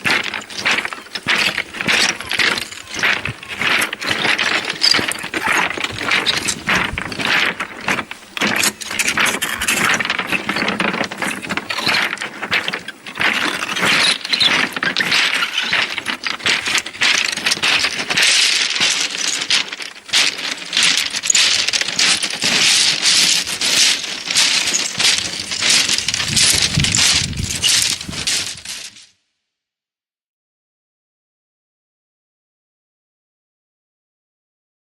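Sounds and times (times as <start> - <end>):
pebbles rattling in waves: 0.0 - 29.0.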